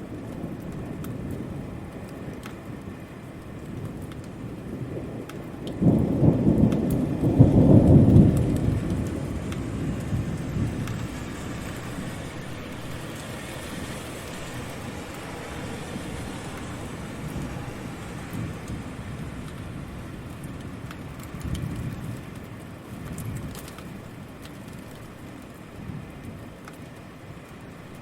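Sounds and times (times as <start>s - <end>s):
rumble of thunder: 0.0s - 24.3s
steady rain falling: 0.0s - 28.0s.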